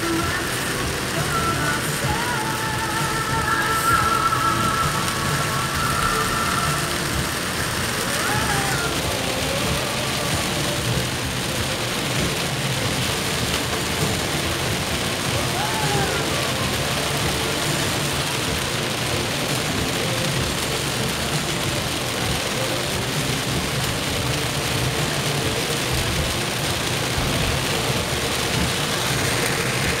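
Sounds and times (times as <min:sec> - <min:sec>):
car engine: 0:00.0 - 0:30.0
heavy rain on a car: 0:00.0 - 0:30.0
tyre noise on wet road: 0:00.0 - 0:30.0.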